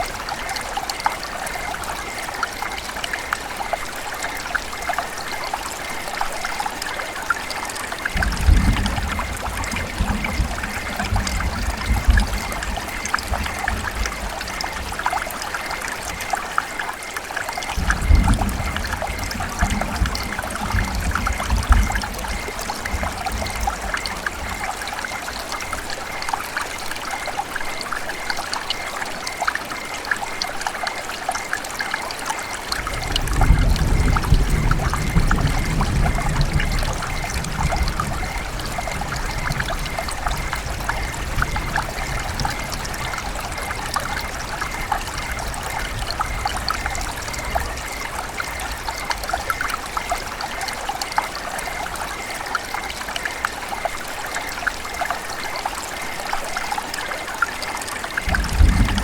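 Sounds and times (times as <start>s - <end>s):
river water running and trickling: 0.0s - 59.0s.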